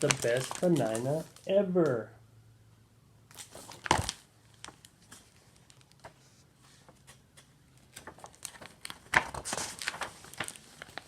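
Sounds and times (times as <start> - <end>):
paper page rustling: 0.0 - 1.5, 3.4 - 11.0.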